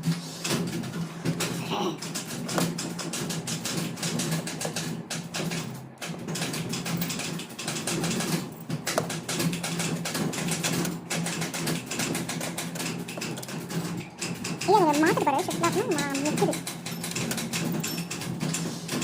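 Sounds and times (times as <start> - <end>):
manual typewriter clicking: 0.0 - 19.0.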